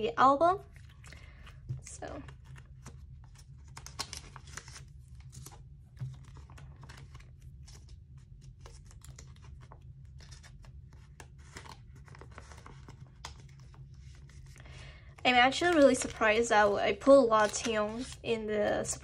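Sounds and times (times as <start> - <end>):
low steady hum: 0.0 - 19.0
plastic sleeves crinkling and clicking: 0.7 - 19.0.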